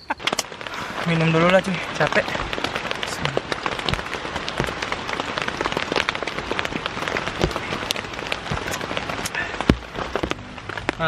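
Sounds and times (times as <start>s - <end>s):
heavy rain on tent: 0.0s - 11.0s
raindrops ticking on fabric: 0.0s - 11.0s.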